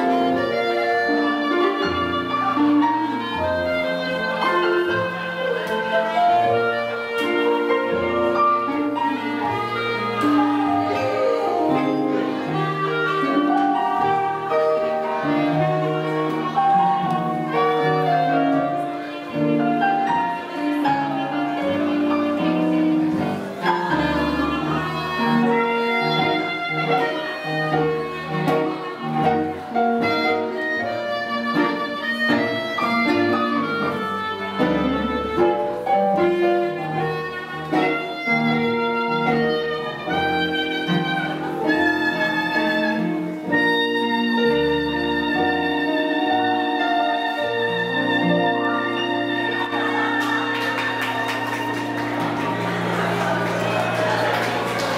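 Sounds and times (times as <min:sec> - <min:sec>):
live band playing swing music: 0:00.0 - 0:54.9.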